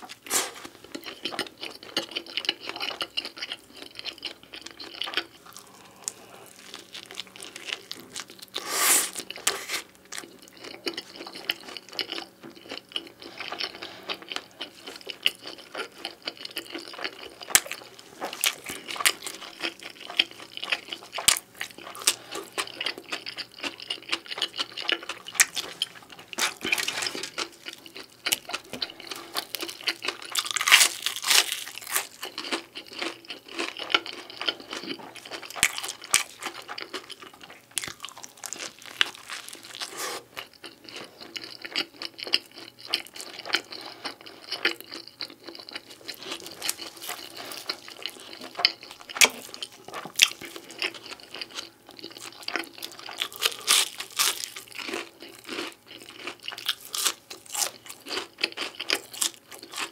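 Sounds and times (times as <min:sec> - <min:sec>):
crisp crust crunching: 0:00.0 - 0:59.9.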